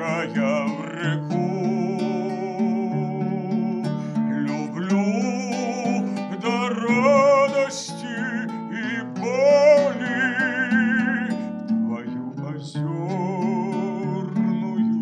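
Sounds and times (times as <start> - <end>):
man singing with vibrato: 0.0 - 15.0
plucked lute-like instrument: 0.0 - 15.0.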